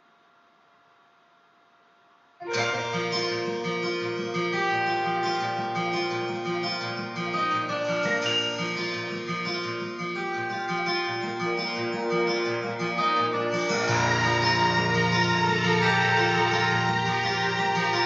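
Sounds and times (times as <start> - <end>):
acoustic guitar chords: 2.4 - 18.0.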